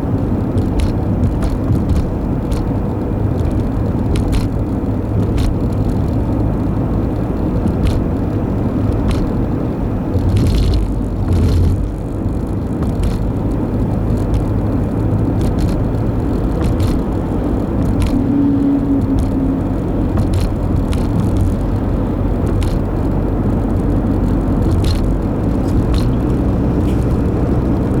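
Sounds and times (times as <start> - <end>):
car engine and tyre rumble: 0.0 - 28.0
light clicks and knocks: 0.2 - 28.0.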